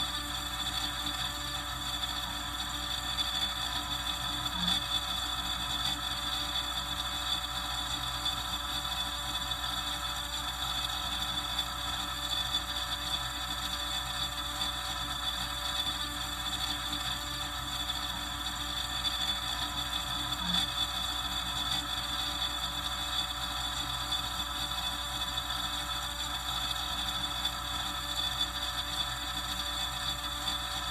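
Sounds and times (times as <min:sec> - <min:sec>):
refrigerator whirring: 0:00.0 - 0:30.9.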